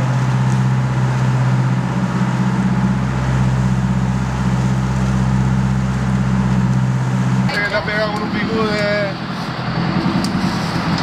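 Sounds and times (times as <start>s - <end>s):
boat engine droning: 0.0s - 11.0s
wind and water rushing: 0.0s - 11.0s.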